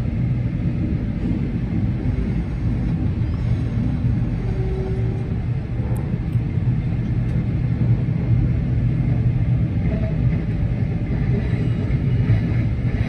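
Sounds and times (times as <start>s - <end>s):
train rumble from inside carriage: 0.0s - 13.0s.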